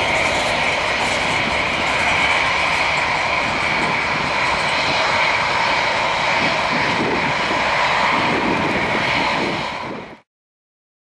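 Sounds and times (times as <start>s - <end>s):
jet engines at takeoff: 0.0s - 10.3s.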